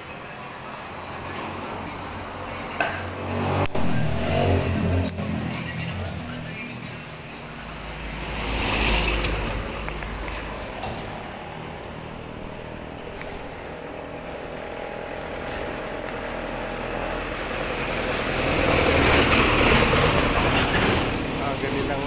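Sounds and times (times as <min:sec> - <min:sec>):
motor vehicle rushing rumble: 0:01.0 - 0:22.0.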